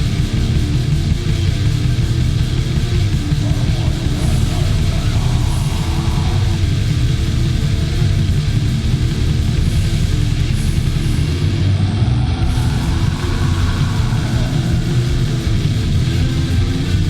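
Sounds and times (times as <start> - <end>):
fast drumming: 0.0 - 11.8, 12.4 - 17.0
distorted guitars: 0.0 - 17.0.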